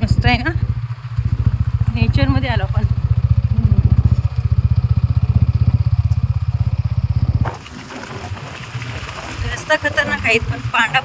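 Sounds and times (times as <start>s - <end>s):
low rumble: 0.0s - 11.0s
motorcycle engine running: 0.0s - 11.0s.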